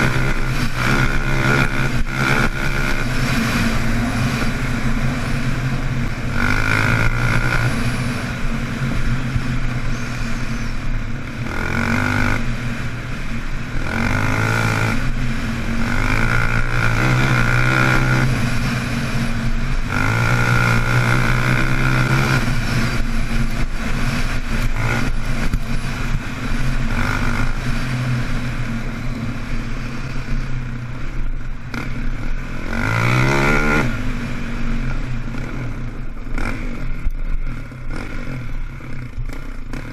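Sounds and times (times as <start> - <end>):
quad engine revving: 0.0 - 8.4, 11.3 - 12.6, 13.8 - 28.7, 31.6 - 39.9.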